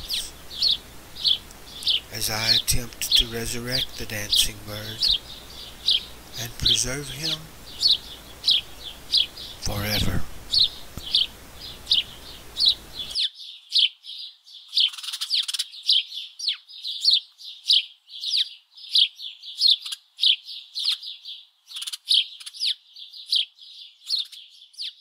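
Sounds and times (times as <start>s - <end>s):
small bird chirping: 0.0s - 25.0s.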